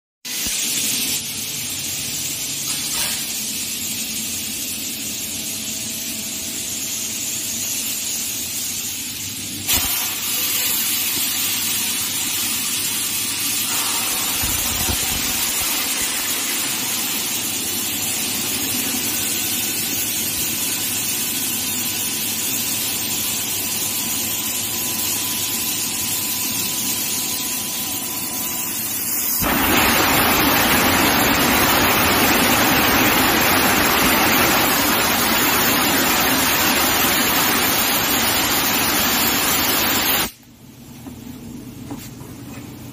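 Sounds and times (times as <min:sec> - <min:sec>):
laser cutter hissing: 0:00.3 - 0:40.4.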